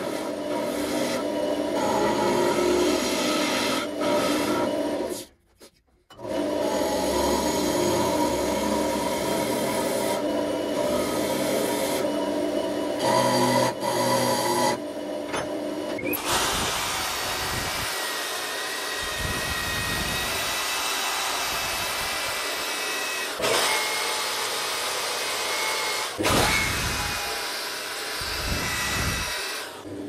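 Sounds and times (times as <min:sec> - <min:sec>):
drill whine: 0:00.0 - 0:05.2, 0:06.2 - 0:14.9, 0:15.8 - 0:30.0.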